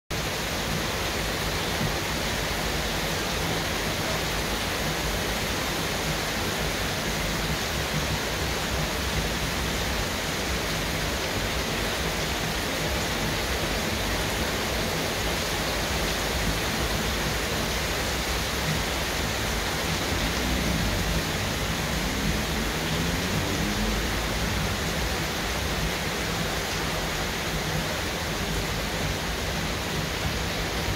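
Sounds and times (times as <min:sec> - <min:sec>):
heavy rain on foliage and roofs: 0:00.1 - 0:30.9.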